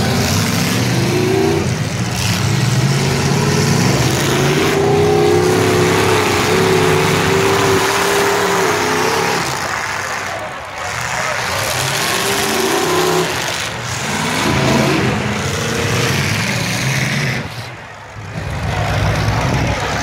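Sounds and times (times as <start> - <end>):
car engine revving: 0.0 - 20.0
car engines running loud: 0.0 - 20.0.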